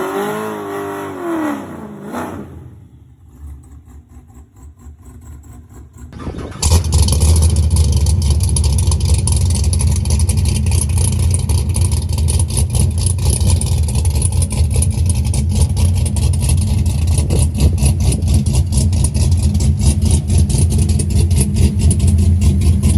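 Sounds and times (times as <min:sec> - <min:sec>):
car engine exhaust rumble: 0:02.7 - 0:22.9.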